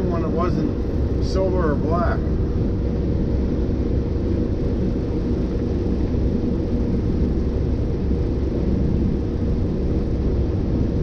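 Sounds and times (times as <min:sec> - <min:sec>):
faint steady hum: 0:00.0 - 0:11.0
vehicle road and engine rumble: 0:00.0 - 0:11.0.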